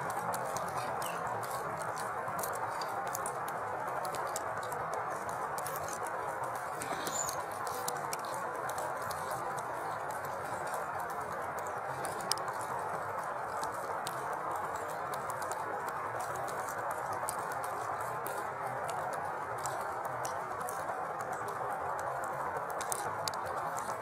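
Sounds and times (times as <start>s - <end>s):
light pattering ticks: 0.0s - 24.0s.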